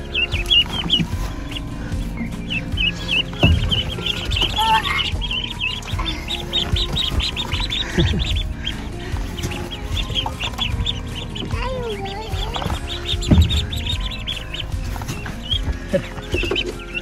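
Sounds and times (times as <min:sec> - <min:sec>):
ducklings peeping: 0:00.0 - 0:17.0
low bumps: 0:00.0 - 0:17.0.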